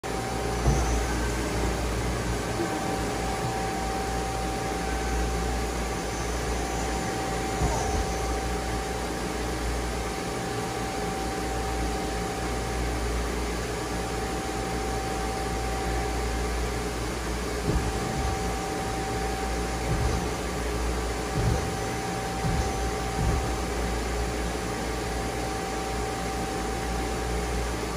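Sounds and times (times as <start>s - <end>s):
lathe machine hum and whine: 0.0s - 27.9s.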